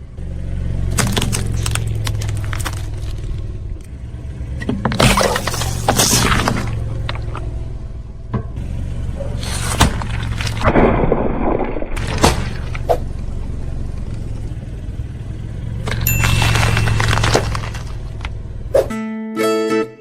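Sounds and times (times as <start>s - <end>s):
tire crushing objects: 0.0s - 18.8s
car engine running: 0.0s - 18.9s.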